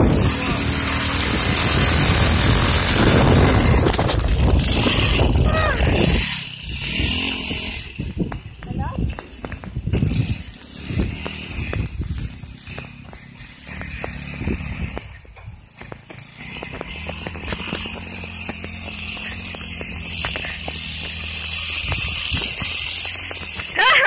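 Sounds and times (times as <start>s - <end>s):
distant scooter engine: 0.0s - 24.0s.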